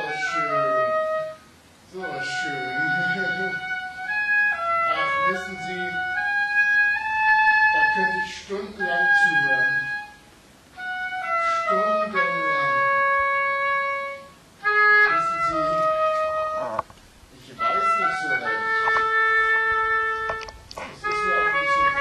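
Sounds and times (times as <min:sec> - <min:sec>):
clarinet-like woodwind melody: 0:00.0 - 0:16.9, 0:17.6 - 0:22.0.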